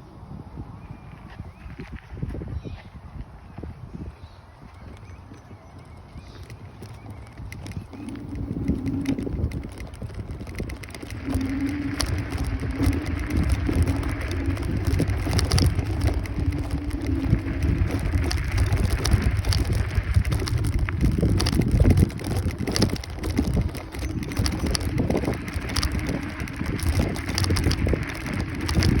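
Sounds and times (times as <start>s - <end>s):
scooter tyre and road noise: 0.0s - 29.0s
wind buffeting microphone: 0.0s - 29.0s
steady low hum: 5.5s - 29.0s.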